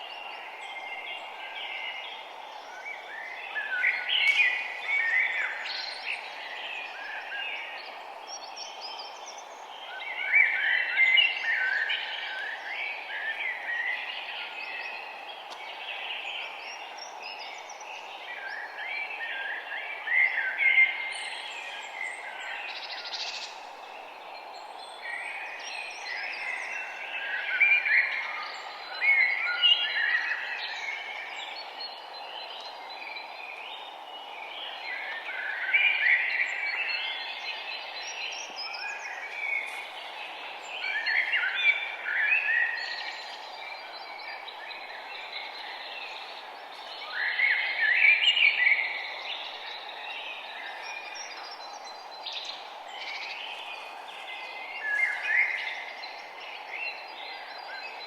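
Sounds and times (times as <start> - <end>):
songbirds chirping and singing: 0.0 - 58.0
steady background hiss: 0.0 - 58.0.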